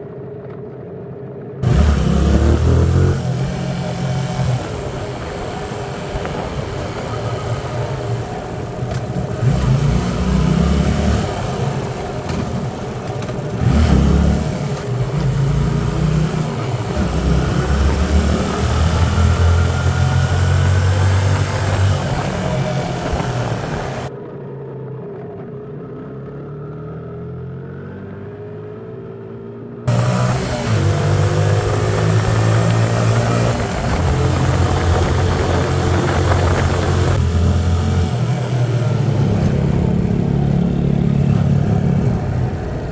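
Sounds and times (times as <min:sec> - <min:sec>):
wind and road noise: 0:00.0 - 0:42.9
motorcycle engine running: 0:01.6 - 0:24.1, 0:29.9 - 0:42.9.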